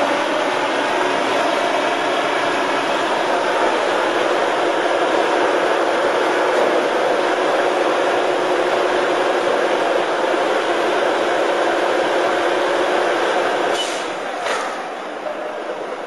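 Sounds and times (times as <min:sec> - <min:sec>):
crane engine droning: 0:00.0 - 0:16.0.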